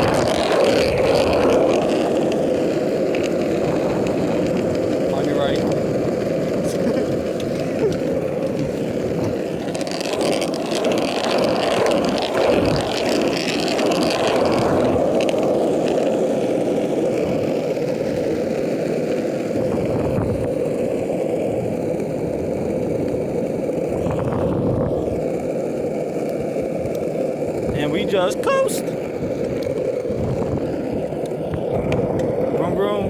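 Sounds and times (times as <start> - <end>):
longboard wheels rolling on asphalt: 0.0 - 33.0.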